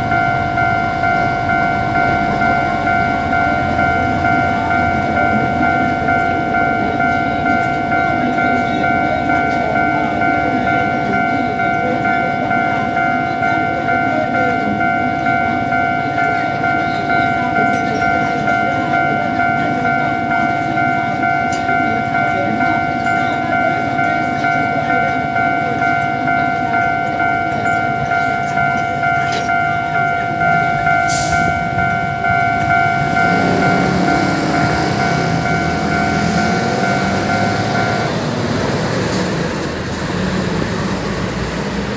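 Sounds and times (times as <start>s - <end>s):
level crossing bell ringing: 0.0s - 40.6s
road vehicle engine: 0.0s - 41.9s
train rumbling past: 0.0s - 41.9s.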